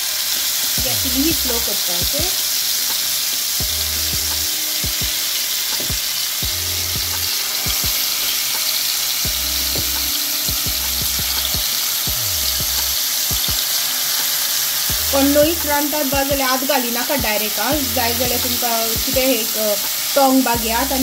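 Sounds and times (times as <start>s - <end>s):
background music: 0.0s - 21.0s
chicken sizzling in hot oil: 0.0s - 21.0s.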